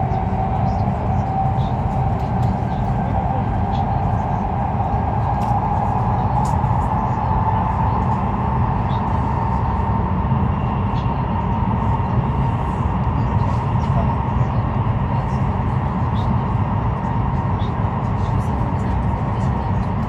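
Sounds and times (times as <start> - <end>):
train cabin rumble and hum: 0.0 - 20.0.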